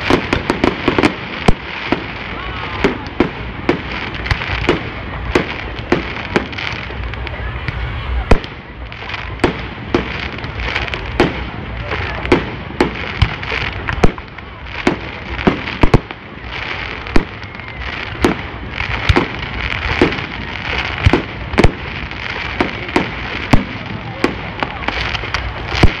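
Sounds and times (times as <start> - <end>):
fireworks bursting with sharp bangs: 0.0 - 26.0
steady noisy din: 0.0 - 26.0.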